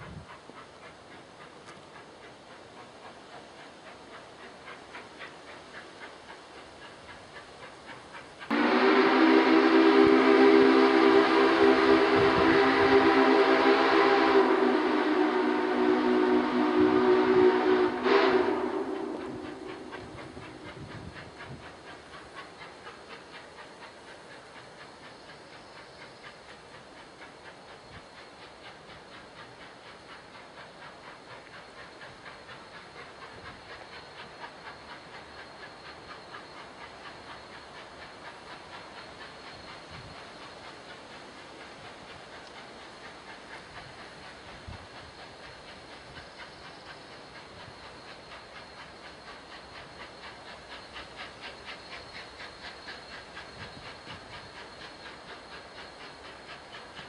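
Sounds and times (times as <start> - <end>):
steam hissing: 0.0 - 57.0
steam locomotive exhaust chuffs: 0.0 - 57.0.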